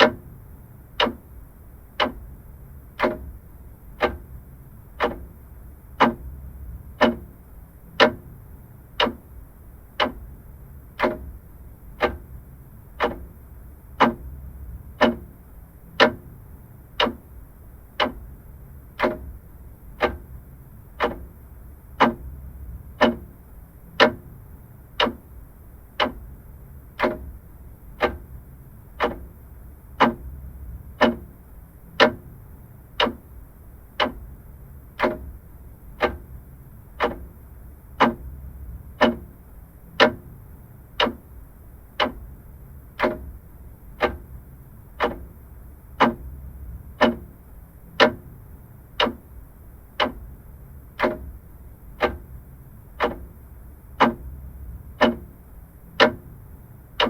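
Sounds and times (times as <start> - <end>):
mechanical clock ticking: 0.0 - 57.0.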